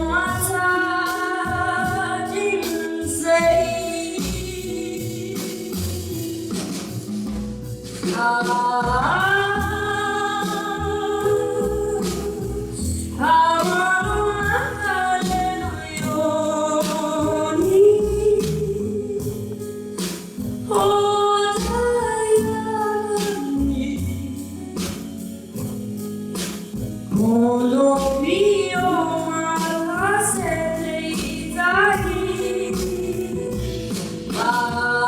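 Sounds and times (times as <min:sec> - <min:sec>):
girl singing a slow ballad: 0:00.0 - 0:35.0
instrumental accompaniment: 0:00.0 - 0:35.0.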